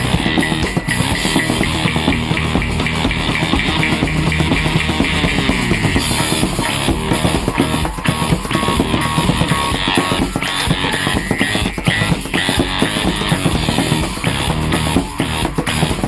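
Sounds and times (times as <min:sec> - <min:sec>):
frame drum beating: 0:00.0 - 0:16.0
guitar: 0:00.0 - 0:16.0.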